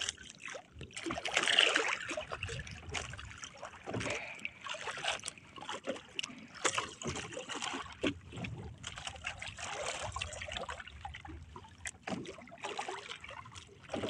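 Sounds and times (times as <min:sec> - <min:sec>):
water lapping around boat: 0:00.0 - 0:14.0.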